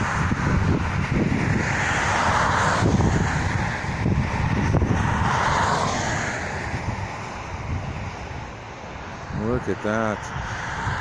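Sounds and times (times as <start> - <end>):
cars passing: 0.0 - 11.0
wind buffeting microphone: 0.0 - 11.0.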